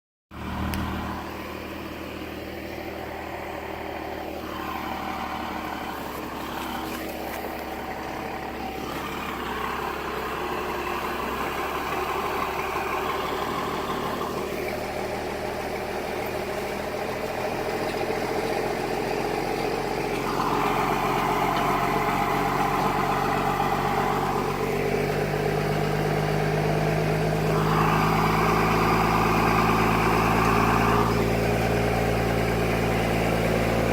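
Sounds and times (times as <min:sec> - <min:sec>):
truck engine revving: 0:00.3 - 0:33.9.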